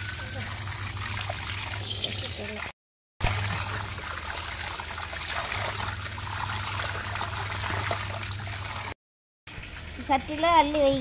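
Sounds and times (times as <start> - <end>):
hands washing fish: 0.0 - 9.0.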